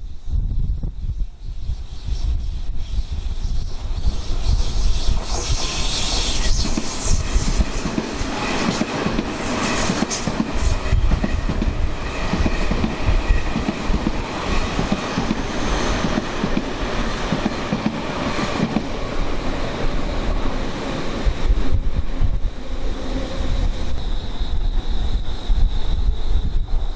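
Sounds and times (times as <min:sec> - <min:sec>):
wind buffeting microphone: 0:00.0 - 0:26.9
electric train passing: 0:01.1 - 0:26.9.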